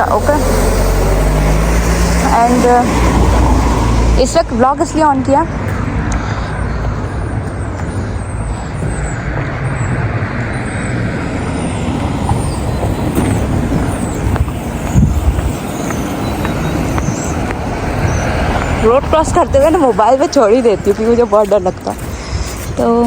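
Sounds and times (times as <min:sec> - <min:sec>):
vehicles passing close by: 0:00.0 - 0:23.0.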